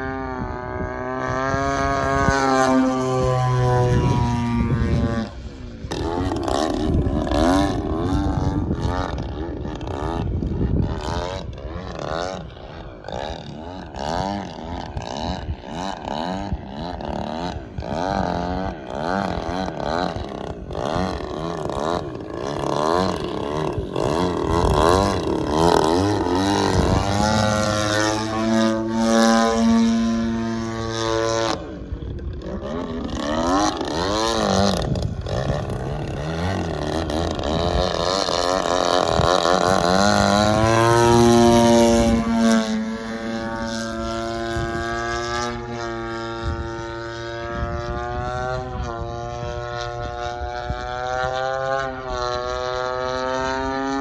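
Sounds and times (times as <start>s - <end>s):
model plane engine and propeller: 0.0s - 54.0s.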